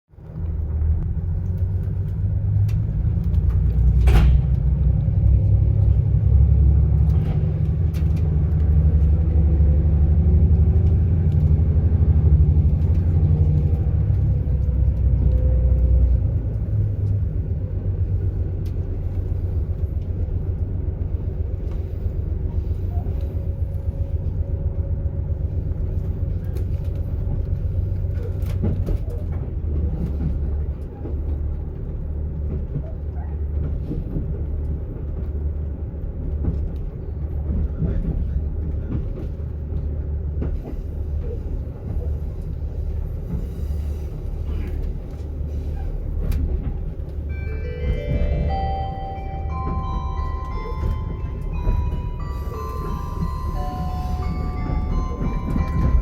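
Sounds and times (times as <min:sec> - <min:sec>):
diesel railcar engine rumble: 0:00.1 - 0:56.0.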